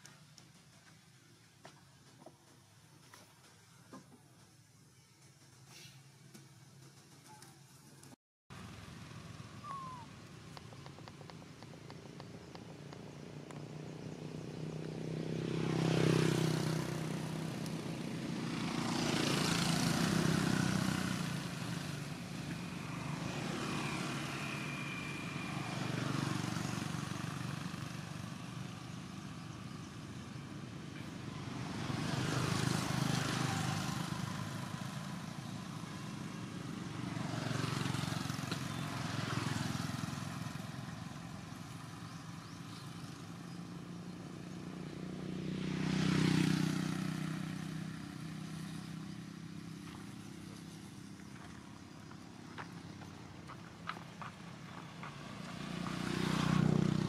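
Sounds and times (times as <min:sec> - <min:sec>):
motor vehicles passing: 0:00.0 - 0:57.0.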